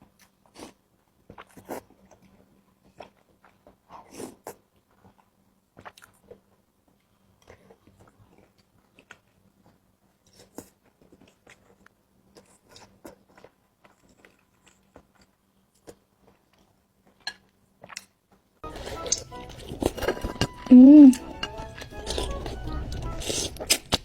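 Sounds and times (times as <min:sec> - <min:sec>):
wet chewing and biting: 0:00.1 - 0:17.2, 0:17.8 - 0:24.0.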